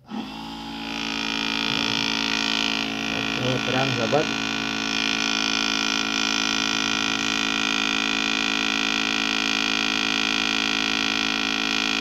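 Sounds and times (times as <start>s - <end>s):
small electric motor humming: 0.0s - 12.0s.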